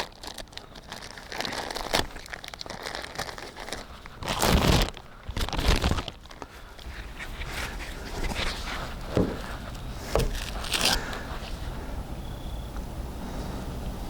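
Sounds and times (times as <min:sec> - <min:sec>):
crinkling rustling handling noise: 0:00.0 - 0:11.9.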